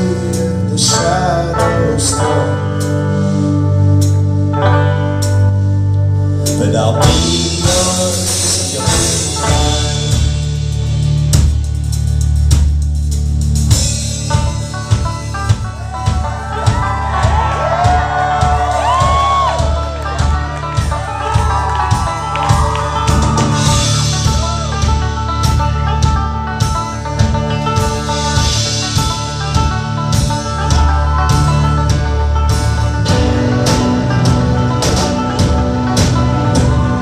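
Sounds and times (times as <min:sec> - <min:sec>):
folk-rock band playing: 0:00.0 - 0:37.0
drum beats: 0:06.4 - 0:37.0.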